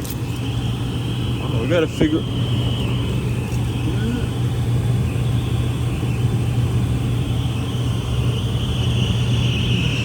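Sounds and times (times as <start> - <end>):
air conditioning unit humming: 0.0 - 10.0.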